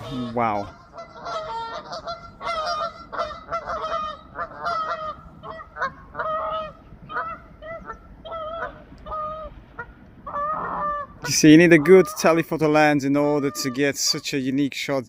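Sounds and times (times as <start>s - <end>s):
flock of birds calling: 0.0s - 14.4s.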